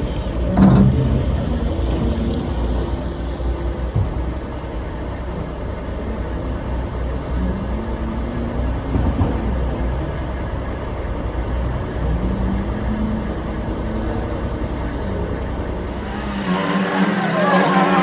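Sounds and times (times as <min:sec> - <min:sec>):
brighter busier engine sound: 0:00.0 - 0:18.0
vehicle engine deep rumble: 0:00.0 - 0:18.0.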